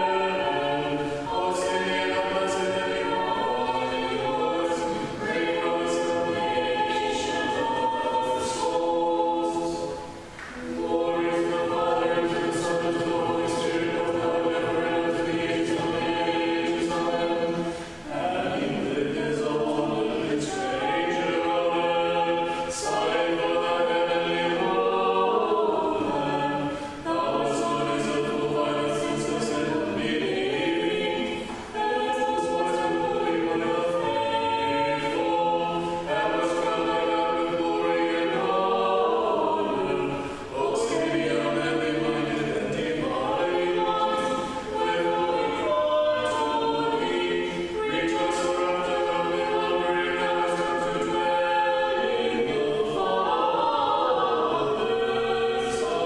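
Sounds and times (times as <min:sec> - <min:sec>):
choir singing unaccompanied chant: 0:00.0 - 0:56.0.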